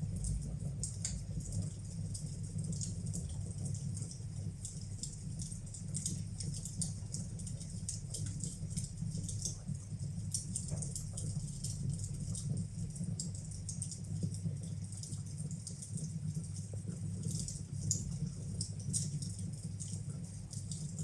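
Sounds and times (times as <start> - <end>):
fireplace fire crackling and popping: 0.0 - 21.0.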